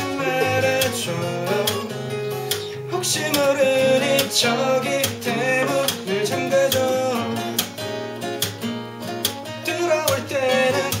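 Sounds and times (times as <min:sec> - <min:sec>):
man singing: 0:00.0 - 0:07.8, 0:09.5 - 0:11.0
acoustic guitars strumming: 0:00.0 - 0:11.0.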